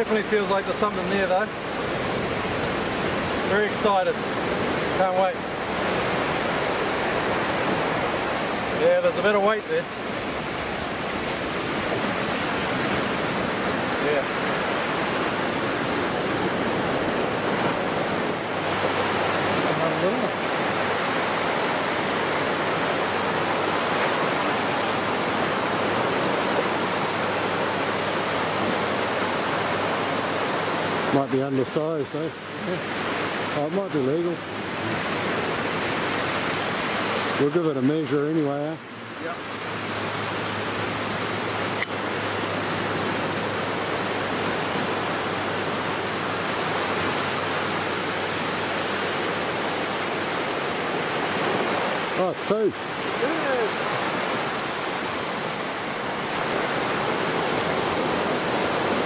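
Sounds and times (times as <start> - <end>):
small waves washing on beach: 0.0 - 59.0.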